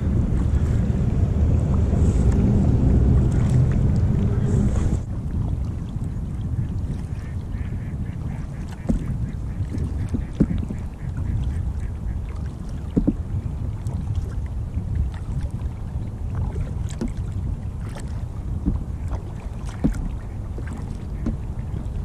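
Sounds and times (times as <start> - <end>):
water moving against kayak hull: 0.0 - 22.0
wind rumbling on microphone: 0.0 - 22.0.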